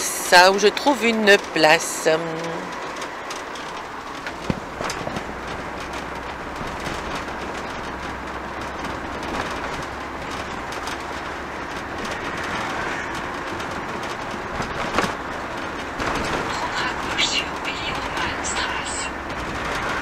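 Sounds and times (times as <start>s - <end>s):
light rattles: 0.0s - 20.0s
road and engine noise: 0.0s - 20.0s.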